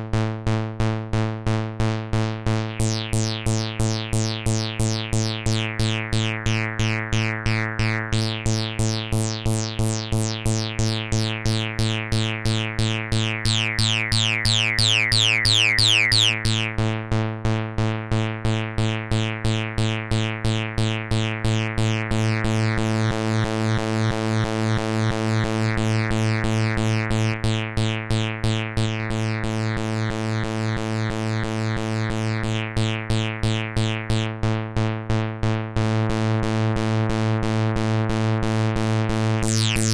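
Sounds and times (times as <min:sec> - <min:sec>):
pulsing electronic bass synth: 0:00.1 - 0:39.9.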